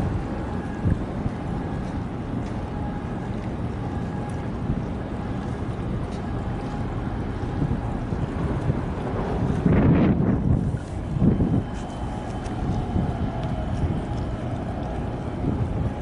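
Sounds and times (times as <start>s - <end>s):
faint steady hum: 0.0s - 16.0s
wind rumbling on microphone: 0.0s - 16.0s.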